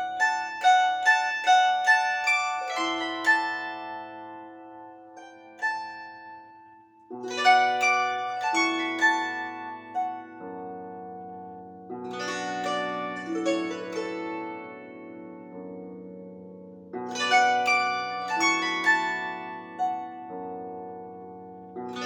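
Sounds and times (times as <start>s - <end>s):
plucked instrument notes ringing: 0.0s - 22.0s.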